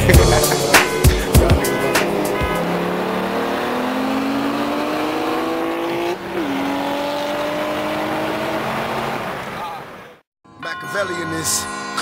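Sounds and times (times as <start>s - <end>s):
car engine accelerating hard: 0.0s - 10.2s.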